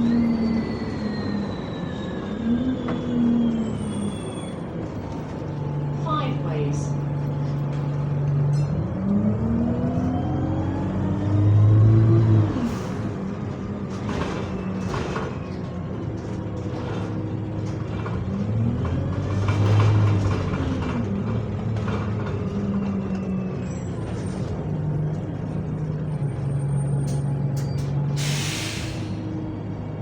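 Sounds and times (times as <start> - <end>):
bus engine running: 0.0 - 30.0.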